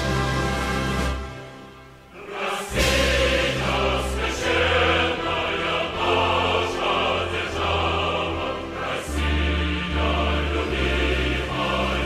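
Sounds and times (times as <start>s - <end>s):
choir holding long chords: 0.0s - 12.0s.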